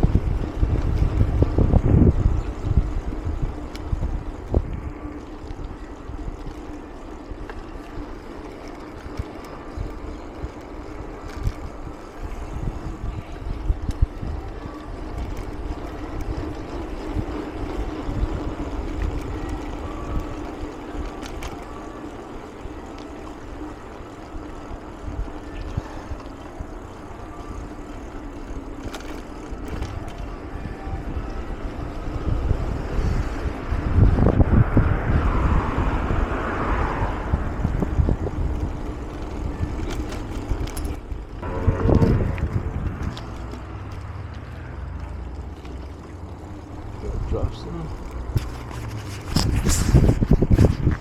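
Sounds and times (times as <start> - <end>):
tyres rolling hum: 0.0 - 51.0
wind rumbling on microphone: 0.0 - 51.0.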